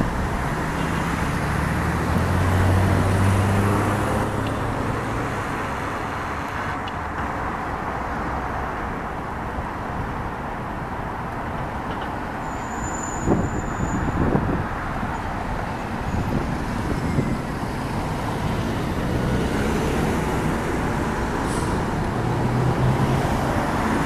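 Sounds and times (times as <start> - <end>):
city road traffic hum: 0.0 - 24.0.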